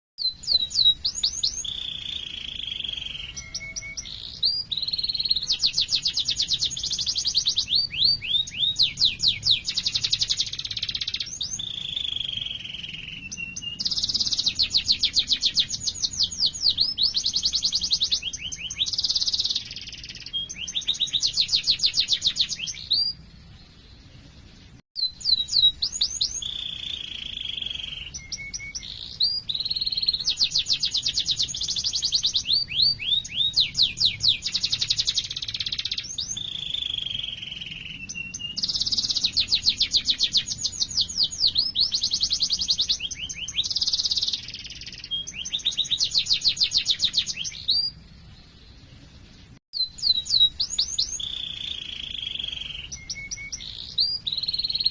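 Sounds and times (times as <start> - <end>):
canary singing trills: 0.2 - 54.9.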